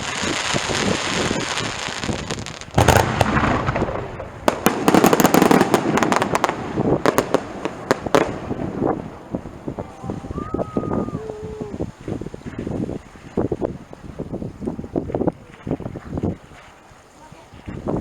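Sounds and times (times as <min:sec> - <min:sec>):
fireworks bursting: 0:00.0 - 0:16.9
fireworks cracking and popping: 0:00.0 - 0:16.9.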